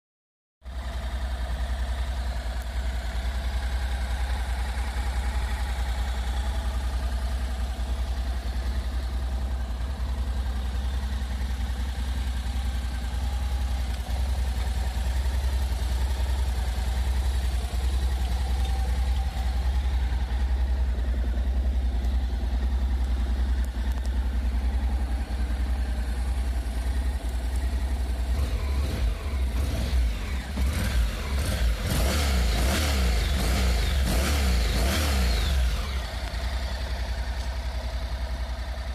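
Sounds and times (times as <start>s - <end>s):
motorcycle engine idling: 0.6s - 38.9s.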